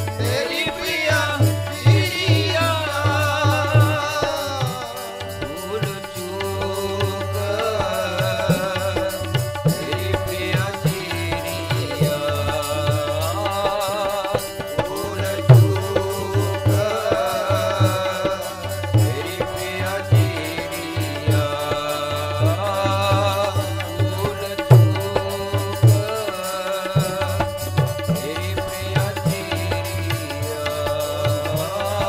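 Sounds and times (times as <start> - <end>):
harmonium holding steady notes: 0.0 - 32.0.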